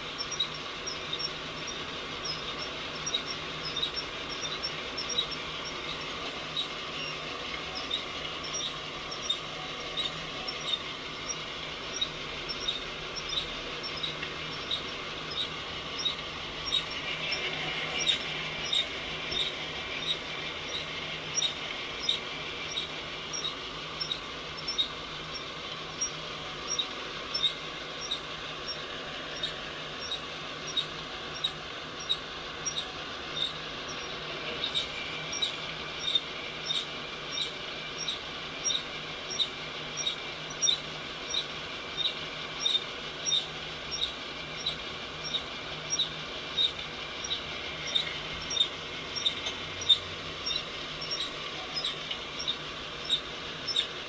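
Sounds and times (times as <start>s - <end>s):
low motor hum: 0.0s - 54.0s
rotating drum squeaky ticks: 0.0s - 54.0s.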